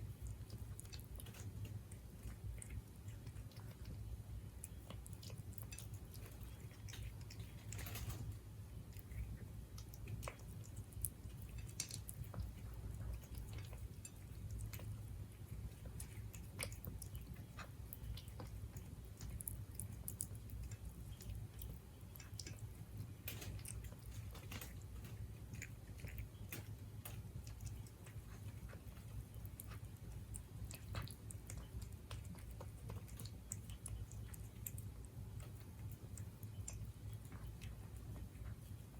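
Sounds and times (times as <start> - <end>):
cat chewing clicks and smacks: 0.0 - 38.9
steady low hum: 0.0 - 38.9.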